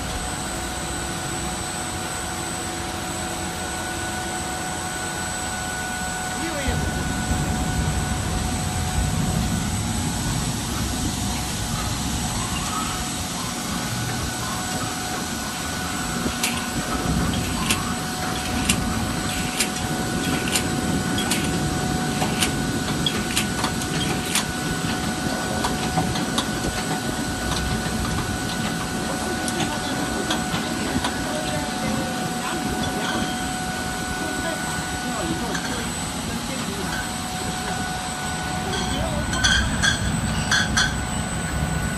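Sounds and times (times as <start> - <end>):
machine humming: 0.0 - 41.9
thin high whine: 0.0 - 41.9.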